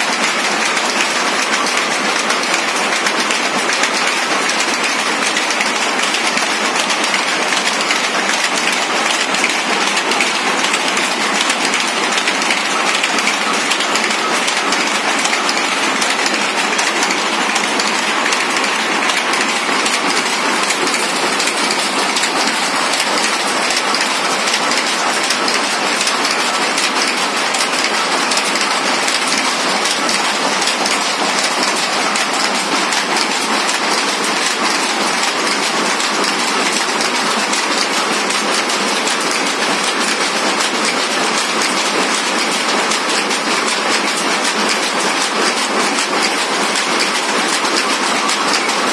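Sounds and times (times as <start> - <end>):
power looms clattering: 0.0 - 48.9.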